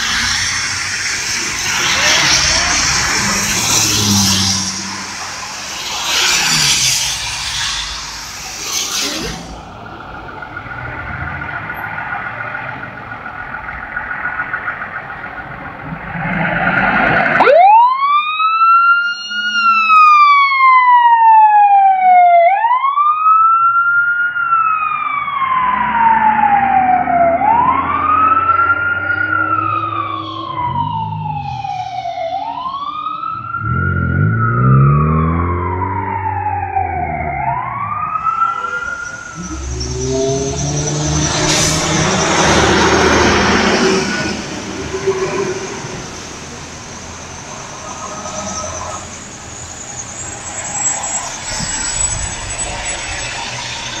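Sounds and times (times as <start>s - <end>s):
truck engine rumble: 0.0s - 17.5s, 25.5s - 54.0s
fire truck siren wailing: 0.0s - 54.0s.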